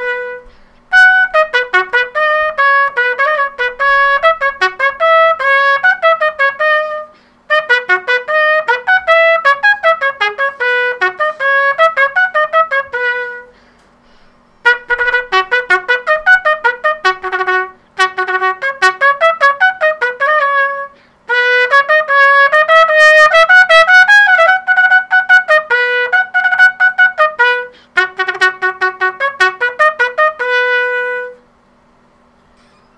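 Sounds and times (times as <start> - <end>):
piccolo trumpet playing: 0.0 - 13.7, 14.6 - 31.4.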